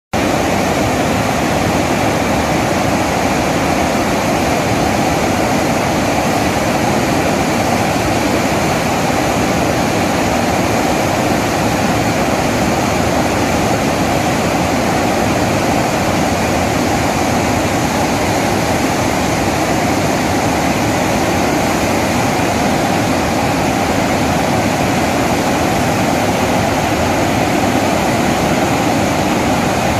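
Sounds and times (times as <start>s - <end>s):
water rushing over dam spillway: 0.2s - 29.9s.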